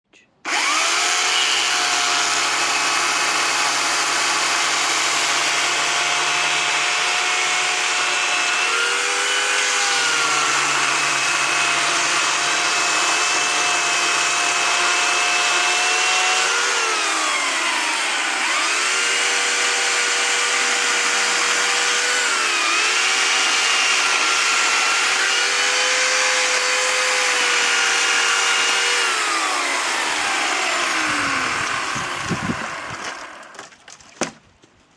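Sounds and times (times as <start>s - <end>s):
motorised saw cutting wood: 0.4s - 33.8s.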